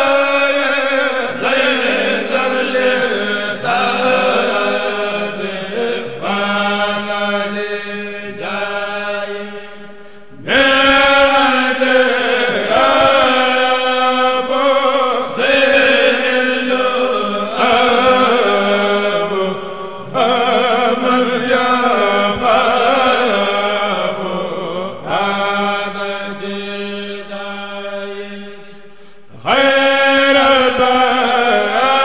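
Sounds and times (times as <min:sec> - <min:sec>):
men chanting in unison: 0:00.0 - 0:28.8, 0:29.4 - 0:32.0.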